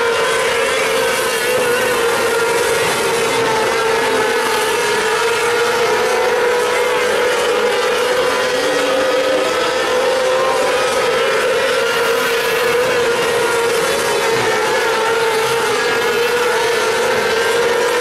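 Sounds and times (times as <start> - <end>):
racing car engines high revs: 0.0 - 18.0.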